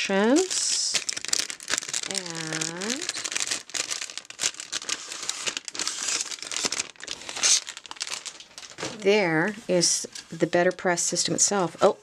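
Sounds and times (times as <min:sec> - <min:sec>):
plastic wrapping crinkling: 0:00.0 - 0:10.3.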